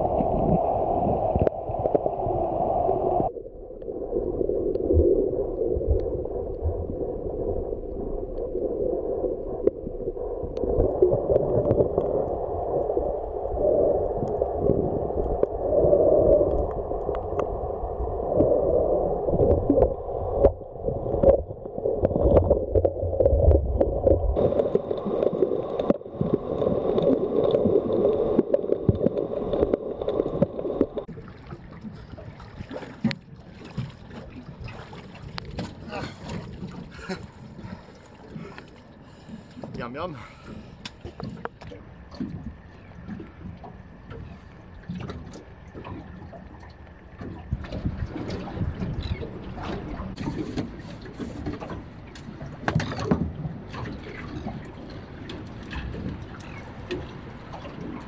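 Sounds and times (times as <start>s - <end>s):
water gurgling and sloshing: 0.0s - 58.0s.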